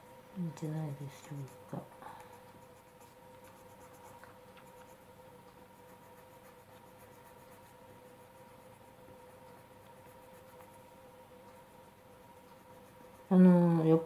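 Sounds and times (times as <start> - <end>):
faint steady hum: 0.0 - 14.0
pencil scratching on paper: 0.9 - 14.0.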